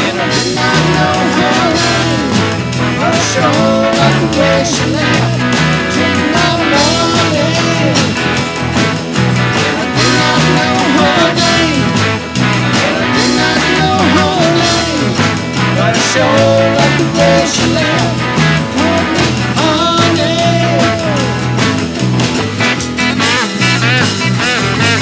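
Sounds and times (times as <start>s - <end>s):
acoustic guitar: 0.0s - 25.0s
bass guitar: 0.0s - 25.0s
electric guitar: 0.0s - 25.0s
harmonica lead with bending notes: 0.0s - 25.0s.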